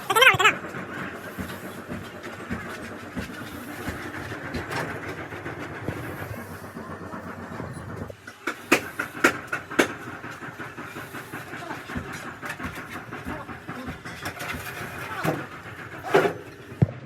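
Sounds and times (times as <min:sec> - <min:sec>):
mechanical running noise: 0:00.0 - 0:16.8.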